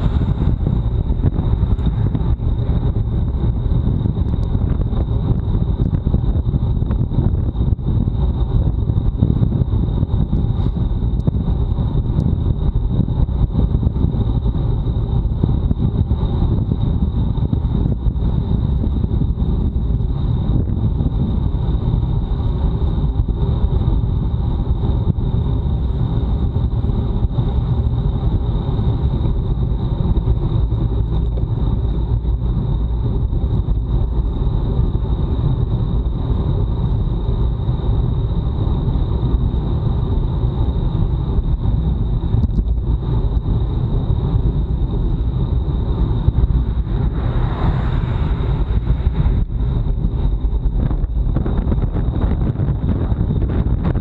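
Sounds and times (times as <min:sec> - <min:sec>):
road and tyre noise: 0:00.0 - 0:54.0
thin high whine: 0:00.0 - 0:54.0
wind buffeting microphone: 0:00.0 - 0:54.0.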